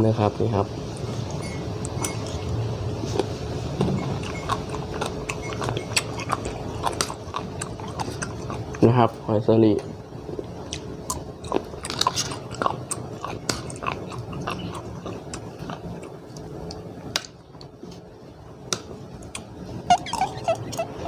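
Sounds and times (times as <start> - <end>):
person chewing food: 0.9 - 9.0, 10.3 - 17.8, 18.8 - 21.0.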